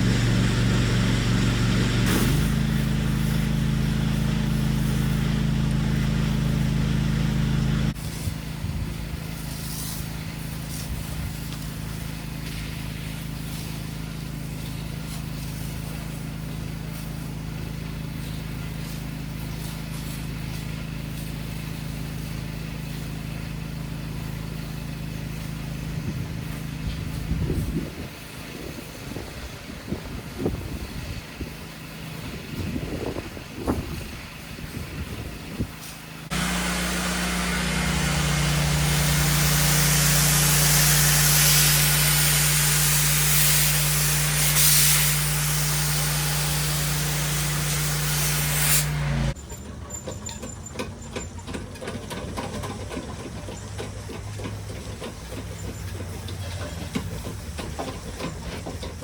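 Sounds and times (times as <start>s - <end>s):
pressure washer engine running: 0.0s - 49.4s, 52.2s - 59.0s.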